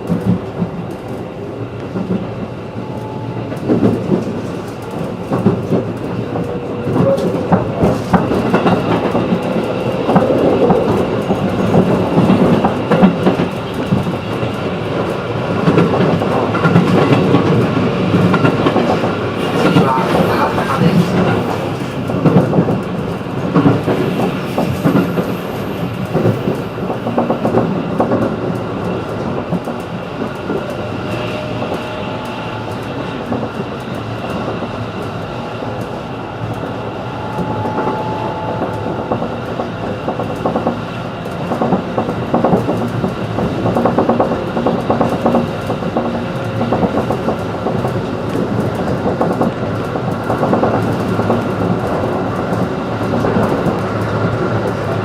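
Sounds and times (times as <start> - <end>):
train rumble: 0.0 - 55.0
wheels clacking over rail joints: 0.0 - 55.0.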